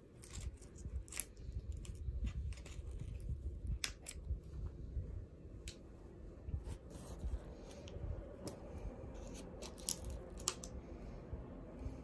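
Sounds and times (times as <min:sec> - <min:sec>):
soft handling rumble: 0:00.1 - 0:12.0.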